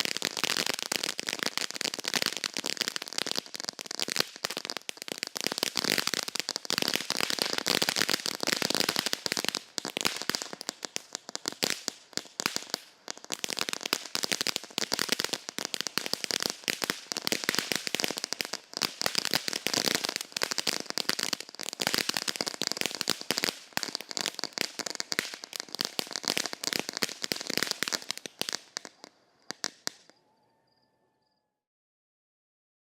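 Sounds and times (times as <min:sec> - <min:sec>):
firework fountain crackling: 0:00.0 - 0:30.2.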